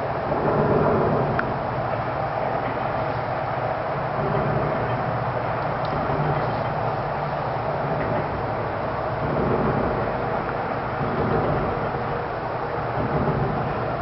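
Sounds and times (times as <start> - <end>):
loud rumbling drone: 0.0 - 14.0
low hum: 0.0 - 14.0.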